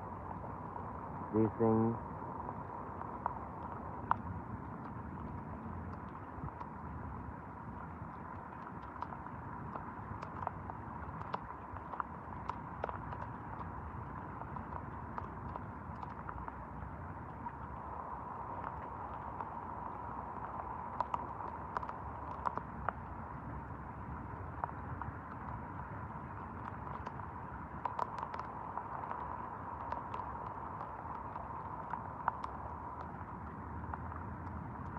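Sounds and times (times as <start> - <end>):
faint steady hum: 0.0 - 34.9
steady rain: 0.0 - 34.9.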